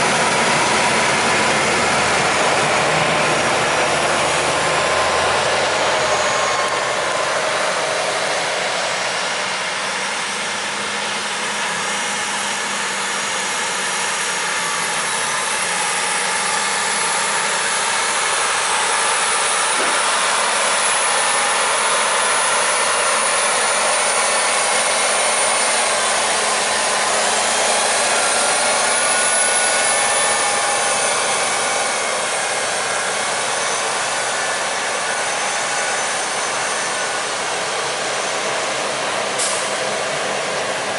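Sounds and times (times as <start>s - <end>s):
tractors running under load: 0.0s - 40.9s.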